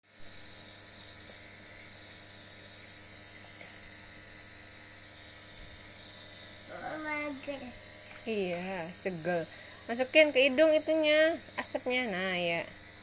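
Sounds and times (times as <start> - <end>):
nebulizer compressor humming: 0.0 - 13.0.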